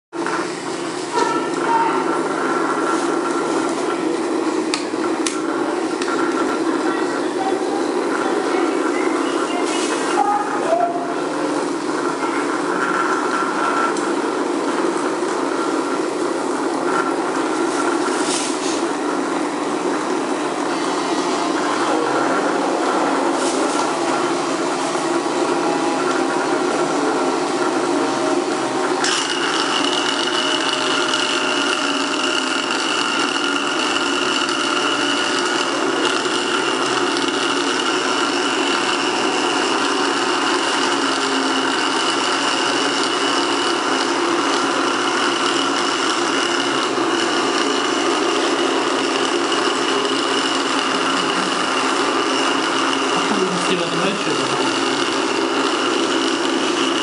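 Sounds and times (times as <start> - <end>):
high steady whine: 0.1 - 57.0
electric motors buzzing: 0.2 - 57.0.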